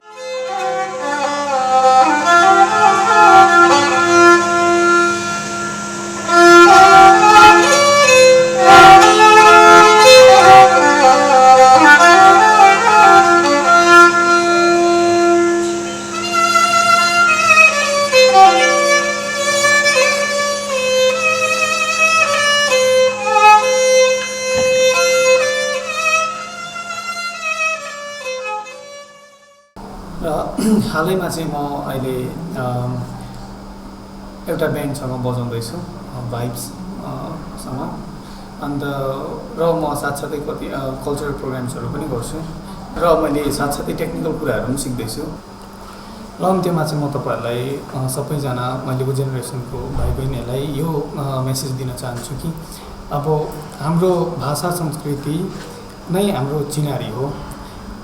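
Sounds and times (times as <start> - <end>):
bowed string folk melody: 0.0 - 58.0.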